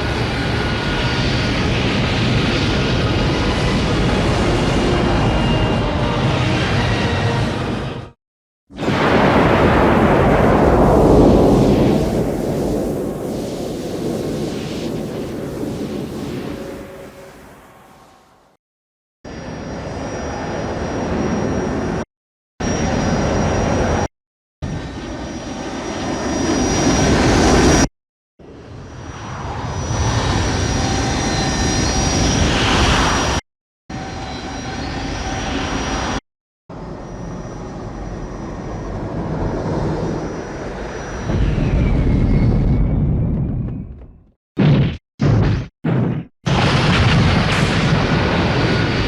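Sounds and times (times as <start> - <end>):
jet engine roar with whine: 0.0 - 18.6, 19.3 - 43.5, 46.5 - 49.0.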